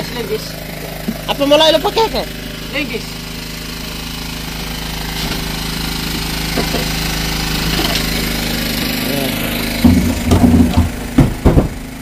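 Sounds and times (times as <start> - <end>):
engine running with pulsing beat: 0.0 - 12.0.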